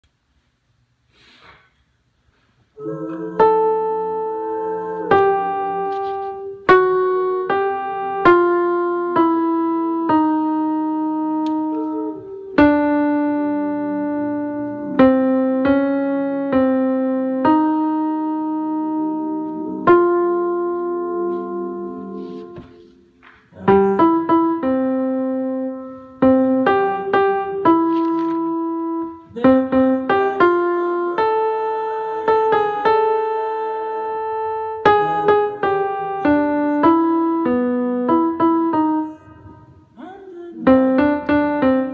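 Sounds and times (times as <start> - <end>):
slow piano melody: 2.8 - 41.9.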